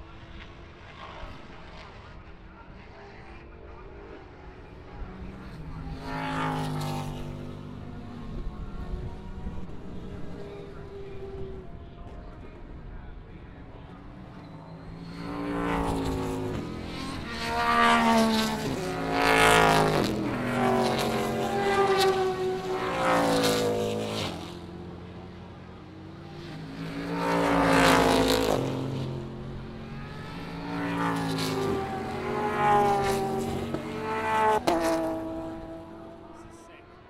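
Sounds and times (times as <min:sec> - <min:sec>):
racing cars accelerating past: 0:04.1 - 0:12.4, 0:13.8 - 0:37.0.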